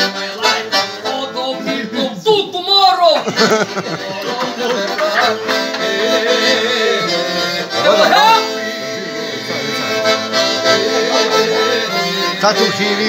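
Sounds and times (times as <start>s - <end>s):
accordion playing chords: 0.0s - 2.5s, 3.2s - 13.0s.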